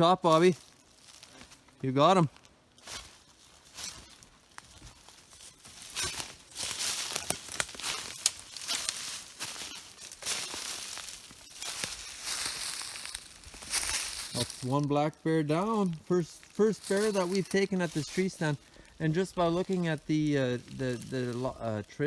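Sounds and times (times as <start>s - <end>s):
rustling and crunching in brush: 0.0s - 22.0s
twigs snapping: 0.3s - 21.9s.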